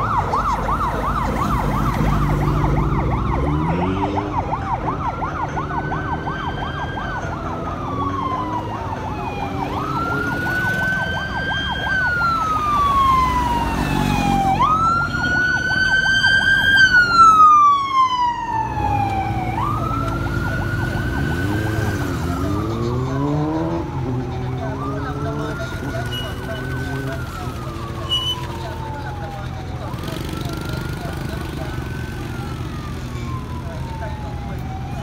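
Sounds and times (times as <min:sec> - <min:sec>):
lower siren: 0:00.0 - 0:35.0
sirens wailing: 0:00.0 - 0:35.0
warbling siren: 0:00.0 - 0:35.0.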